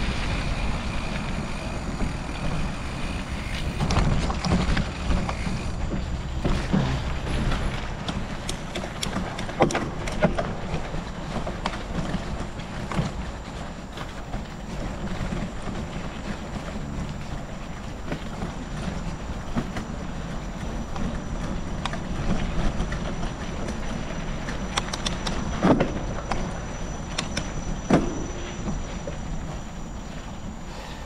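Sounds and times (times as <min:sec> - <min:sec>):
bicycle rolling on gravel: 0:00.0 - 0:31.0.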